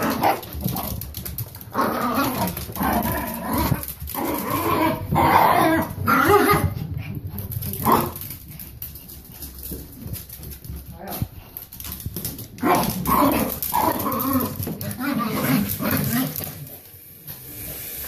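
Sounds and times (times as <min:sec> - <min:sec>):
dogs growling and barking: 0:00.0 - 0:16.8.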